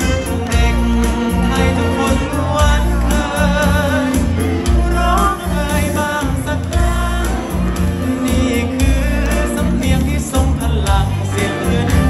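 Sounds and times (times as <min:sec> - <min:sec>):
backing track with heavy bass: 0:00.0 - 0:12.0
man singing into microphone: 0:00.0 - 0:12.0.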